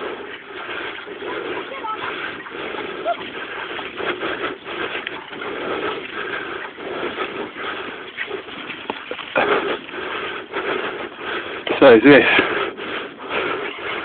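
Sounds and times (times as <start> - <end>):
wheels rumbling on dirt path: 0.0 - 14.0.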